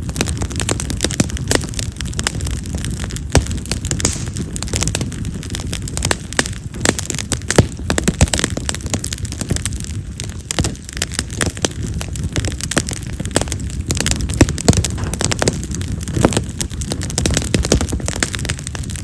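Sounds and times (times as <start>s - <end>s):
firewood crackling and popping: 0.0s - 19.0s
flames rushing: 0.0s - 19.0s.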